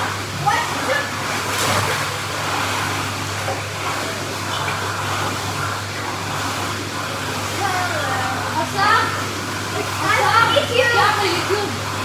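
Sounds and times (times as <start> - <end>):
pool pump humming: 0.0 - 12.0
pool water churning: 0.0 - 12.0.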